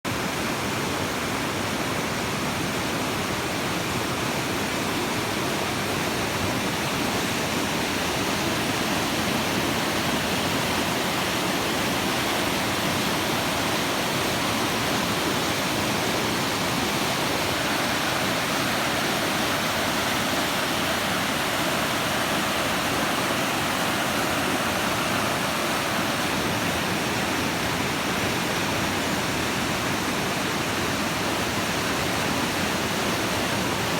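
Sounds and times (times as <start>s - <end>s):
river water roaring: 0.1s - 33.9s.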